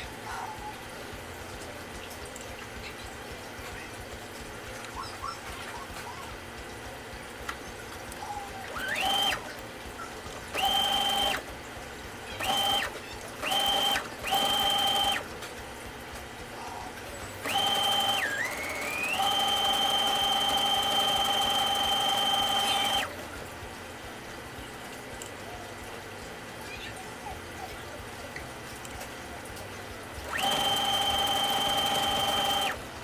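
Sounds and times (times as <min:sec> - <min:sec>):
electric sewing machine running: 0:00.0 - 0:33.0.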